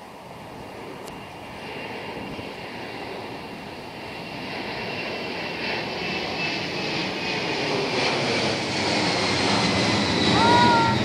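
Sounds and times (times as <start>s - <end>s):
jet engines passing overhead: 0.0s - 11.0s.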